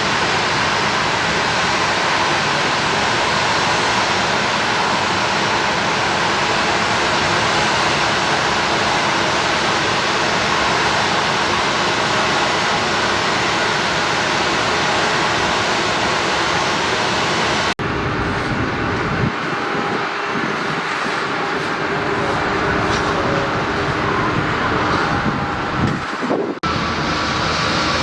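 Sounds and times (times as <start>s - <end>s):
airliner jet engines: 0.0s - 28.0s
engine noise with steady tones: 0.0s - 28.0s.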